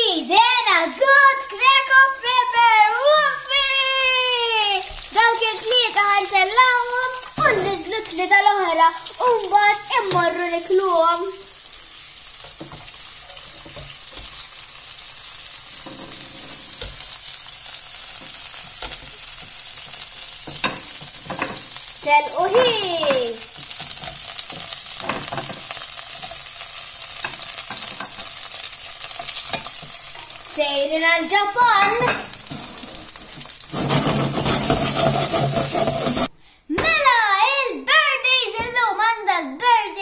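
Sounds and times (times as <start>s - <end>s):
oil sizzling in a wok: 0.0s - 36.6s.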